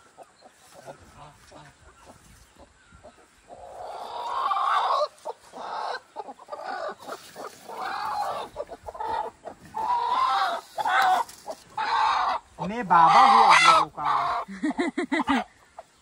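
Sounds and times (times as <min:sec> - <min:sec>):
hen squawking and clucking: 0:00.0 - 0:16.0.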